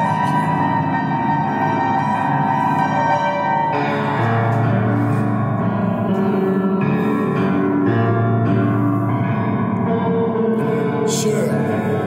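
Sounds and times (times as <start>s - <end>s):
ambient music sustained chords: 0.0s - 12.0s.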